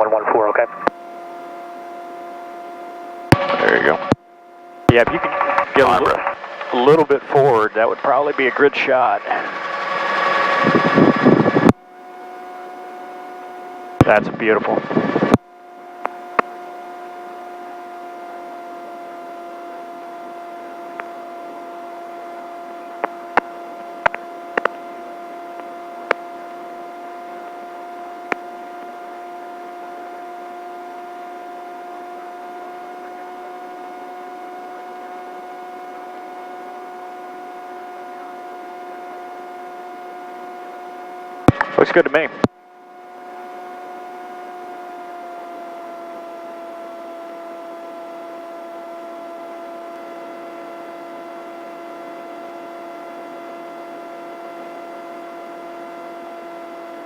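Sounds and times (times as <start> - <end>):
helicopter hum through headset: 0.0 - 57.0.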